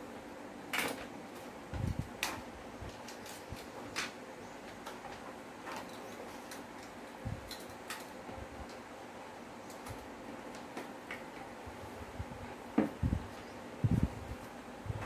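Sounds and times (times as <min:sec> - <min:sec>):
electric fans humming: 0:00.0 - 0:15.0.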